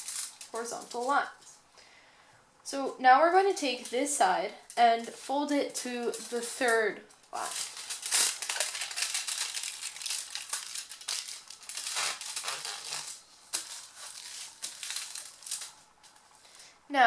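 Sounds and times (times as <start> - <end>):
aluminium foil crinkling: 0.0 - 1.6, 3.3 - 16.6.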